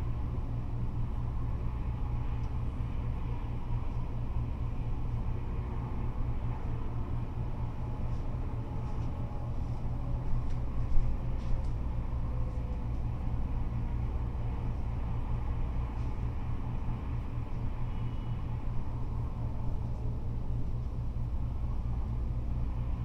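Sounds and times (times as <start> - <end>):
freeway traffic rumble: 0.0 - 23.0.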